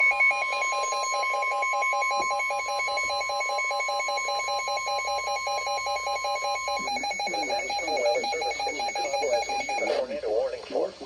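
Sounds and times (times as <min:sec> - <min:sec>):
steady high alarm tone: 0:00.0 - 0:10.0.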